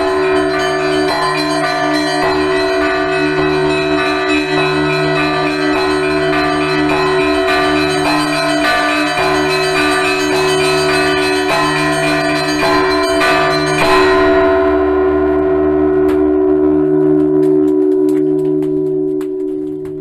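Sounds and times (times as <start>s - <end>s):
church bells pealing: 0.0s - 19.1s.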